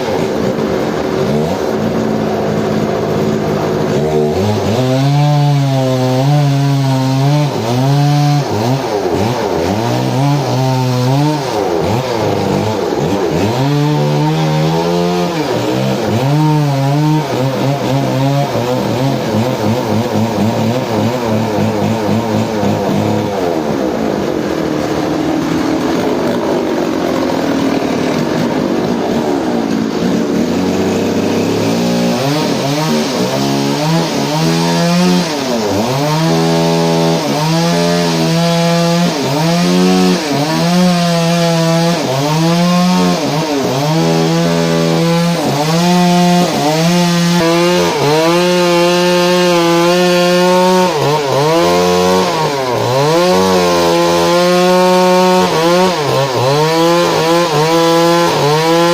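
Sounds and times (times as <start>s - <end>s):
engine-driven saw cutting wood: 0.0s - 58.9s.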